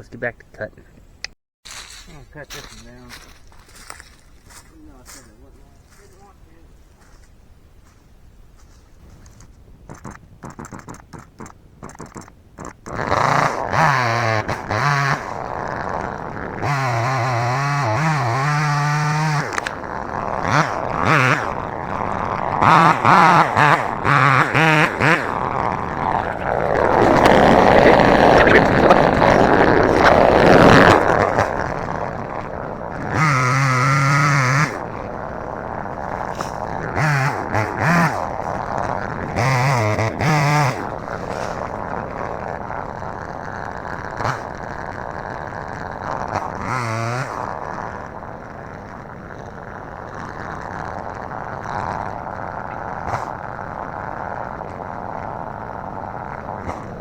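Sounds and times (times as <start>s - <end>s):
chainsaw cutting into tree: 1.7s - 57.0s
chainsaw revving: 1.7s - 57.0s.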